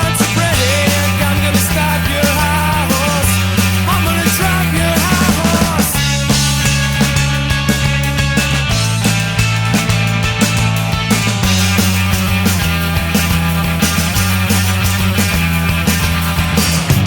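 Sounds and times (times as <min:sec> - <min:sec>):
bass: 0:00.0 - 0:17.0
rock band playing: 0:00.0 - 0:17.0.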